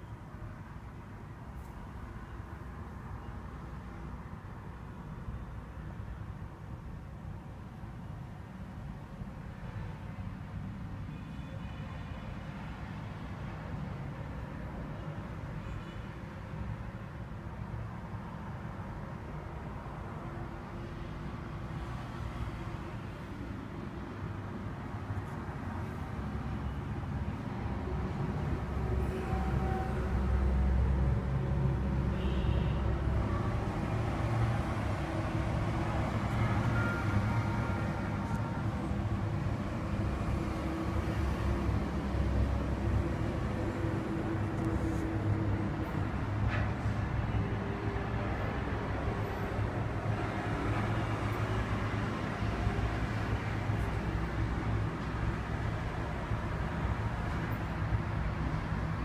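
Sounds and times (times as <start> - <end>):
background noise: 0.0 - 59.0.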